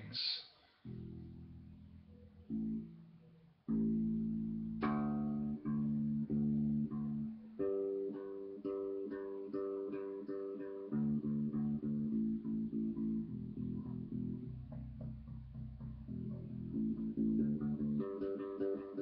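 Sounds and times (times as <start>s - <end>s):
electric bass plucked notes: 0.9s - 19.0s.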